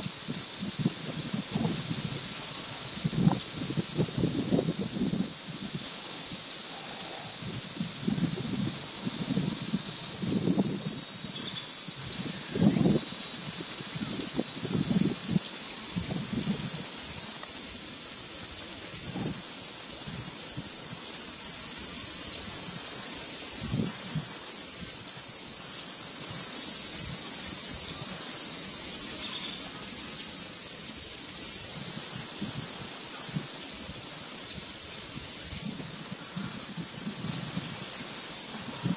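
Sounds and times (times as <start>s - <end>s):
insects buzzing chorus: 0.0s - 38.9s.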